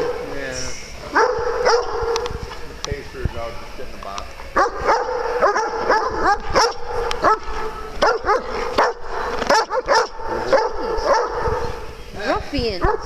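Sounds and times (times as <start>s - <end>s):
dogs barking and yipping: 0.0s - 2.5s, 4.4s - 13.0s.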